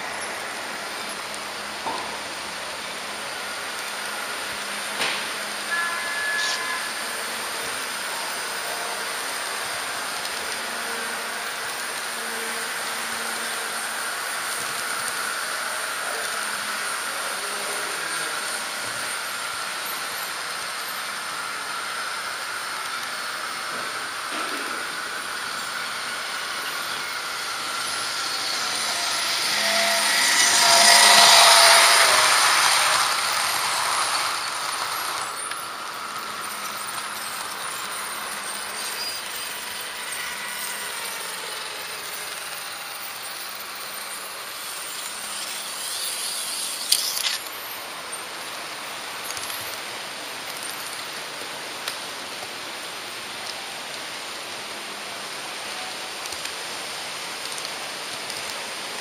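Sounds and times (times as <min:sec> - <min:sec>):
model train whirring on track: 0:00.0 - 0:59.0.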